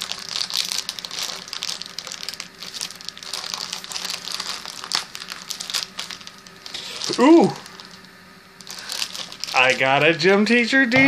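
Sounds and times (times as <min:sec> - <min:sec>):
wrapper crinkling and rustling: 0:00.0 - 0:10.2.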